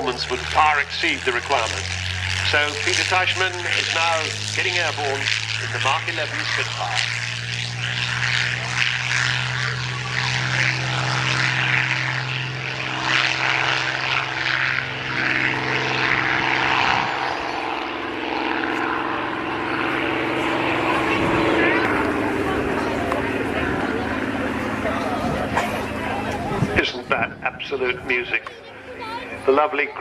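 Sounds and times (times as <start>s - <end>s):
aircraft engine at high power: 0.0s - 30.0s
propeller noise: 0.0s - 30.0s.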